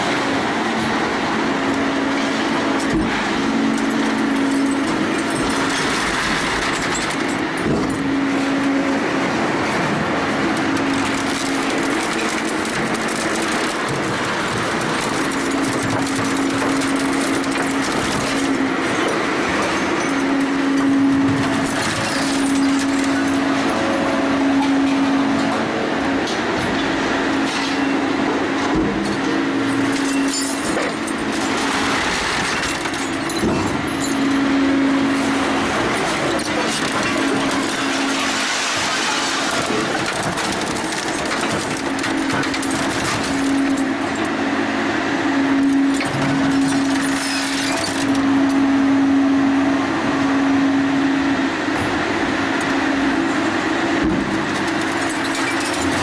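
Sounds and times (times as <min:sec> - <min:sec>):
machine hum: 0:00.0 - 0:56.0
metal bars grinding and crunching: 0:01.6 - 0:44.5, 0:45.6 - 0:48.8, 0:54.2 - 0:56.0.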